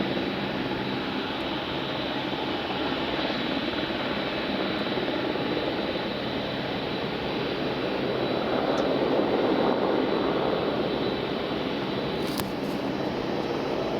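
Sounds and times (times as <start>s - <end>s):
jet engines running: 0.0s - 13.9s.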